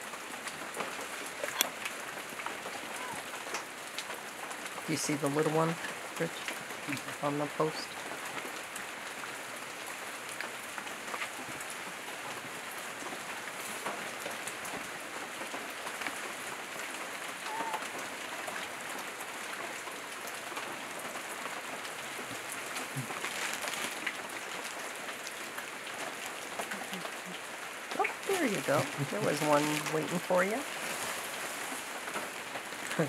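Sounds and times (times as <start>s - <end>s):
rain hissing: 0.0s - 33.0s.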